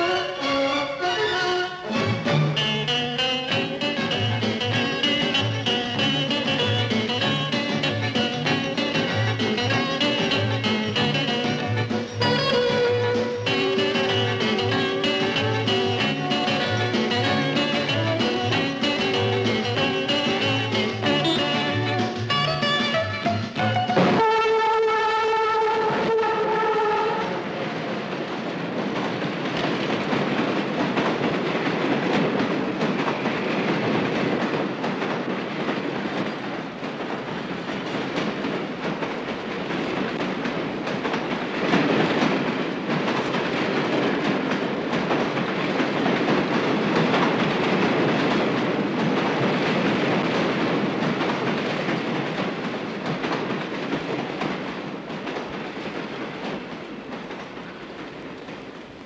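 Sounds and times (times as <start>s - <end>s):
train clattering on rails: 0.0s - 59.0s.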